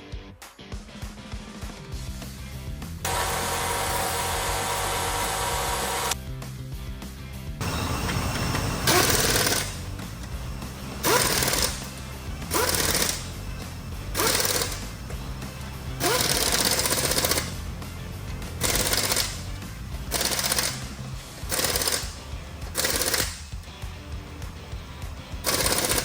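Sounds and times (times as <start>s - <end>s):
background music: 0.0s - 26.0s
pneumatic impact wrench bursts: 3.1s - 6.2s, 7.6s - 26.0s.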